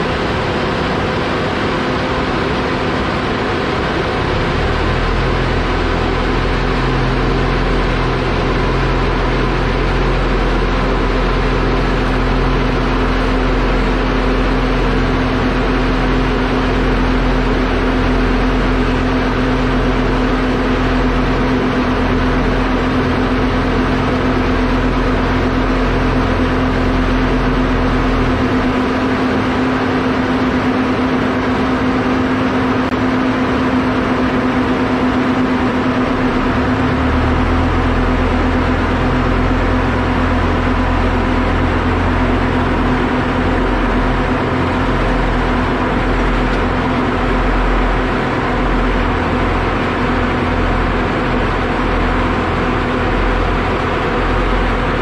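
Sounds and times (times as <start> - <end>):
constant hum: 0.0 - 55.0
diesel engines running: 0.0 - 55.0.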